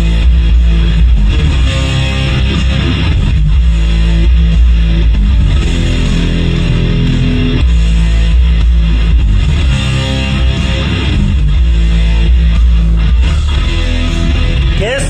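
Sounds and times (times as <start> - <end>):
loud recorded music with heavy sub-bass: 0.0 - 15.0.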